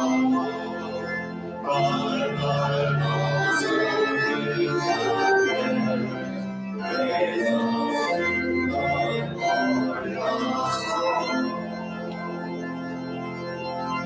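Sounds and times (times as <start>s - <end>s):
organ playing held chords: 0.0s - 14.0s.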